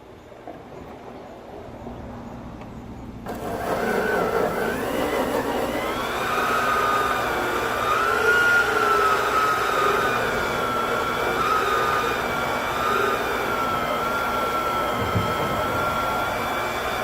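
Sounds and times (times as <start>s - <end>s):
band saw cutting wood: 3.3s - 17.0s.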